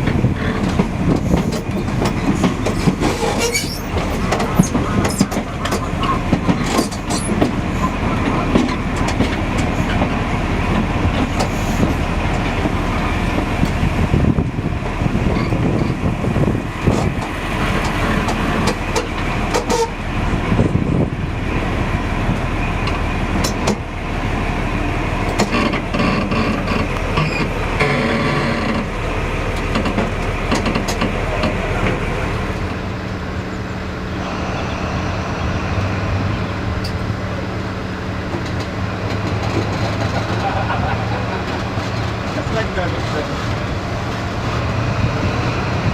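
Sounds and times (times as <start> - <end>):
train clicks and knocks: 0.0 - 45.9
train wheels rumbling on rails: 0.0 - 45.9.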